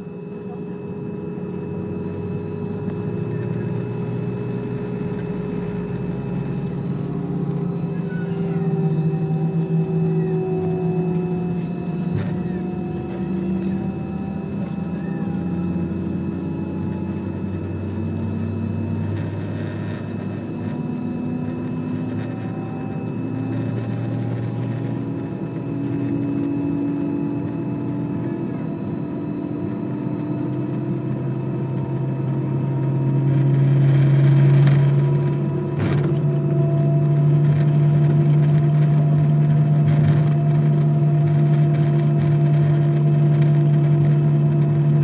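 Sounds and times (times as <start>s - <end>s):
jet engine hum inside cabin: 0.0s - 45.0s.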